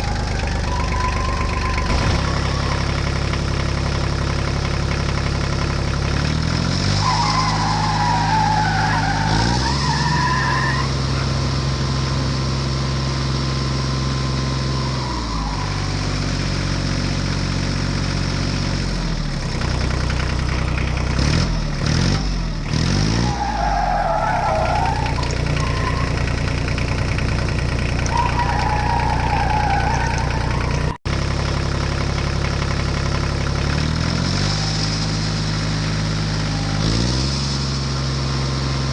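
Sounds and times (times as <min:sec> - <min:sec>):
heavy vehicle engine revving: 0:00.0 - 0:38.9.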